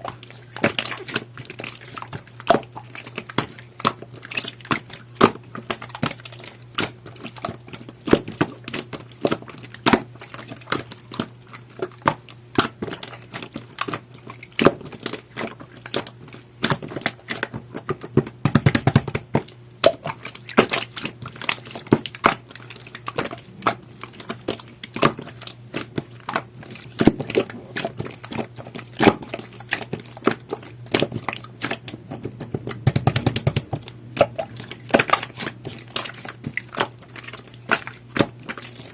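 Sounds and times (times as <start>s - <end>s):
slime squished by hand: 0.0s - 38.9s.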